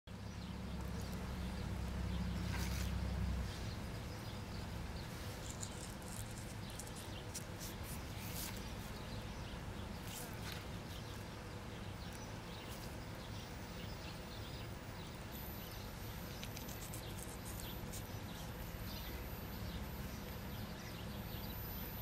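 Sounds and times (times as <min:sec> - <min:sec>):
small birds chirping faintly: 0:00.1 - 0:22.0.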